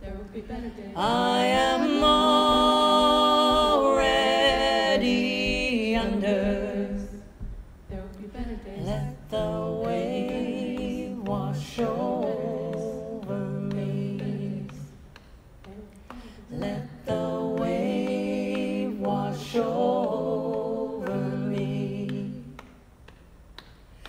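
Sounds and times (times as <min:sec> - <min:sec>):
voices singing a chant: 0:00.0 - 0:15.0, 0:15.6 - 0:22.8.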